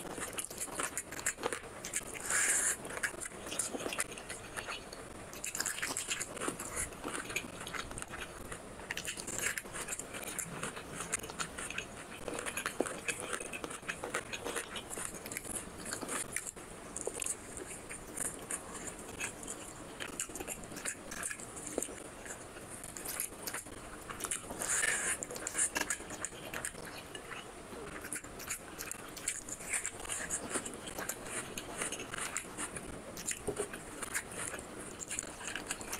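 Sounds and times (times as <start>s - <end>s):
person chewing food: 0.0s - 35.9s.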